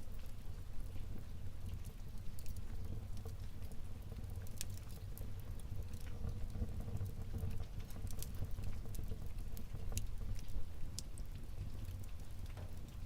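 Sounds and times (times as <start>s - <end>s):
fire rumbling: 0.0s - 13.0s
logs crackling and snapping: 1.6s - 13.0s.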